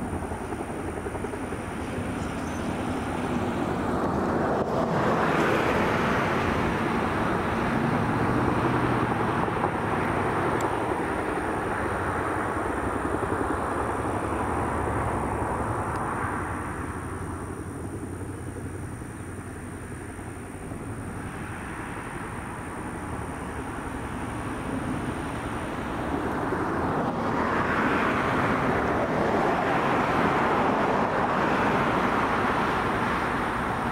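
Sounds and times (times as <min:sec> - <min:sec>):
helicopter rotors beating: 0:00.0 - 0:33.9
turbine engines running: 0:00.0 - 0:33.9.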